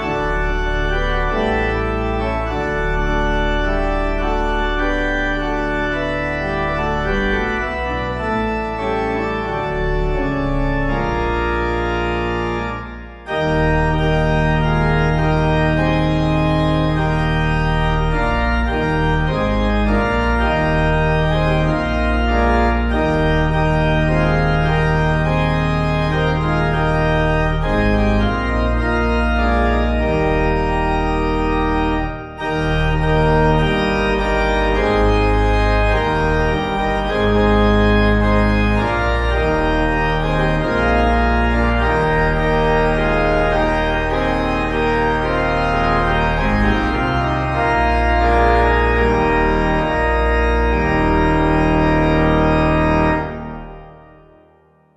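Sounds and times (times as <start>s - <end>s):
organ playing sustained chords: 0.0s - 54.9s.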